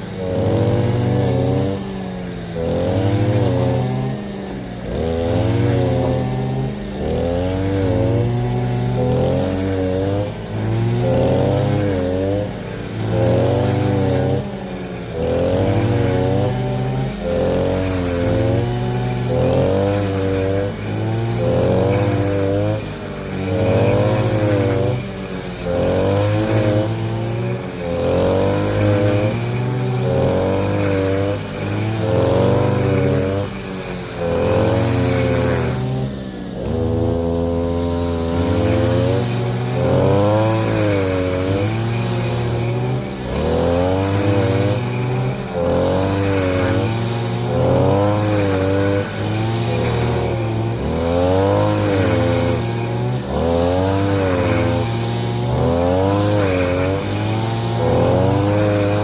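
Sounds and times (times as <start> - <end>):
engine revving: 0.0 - 59.0.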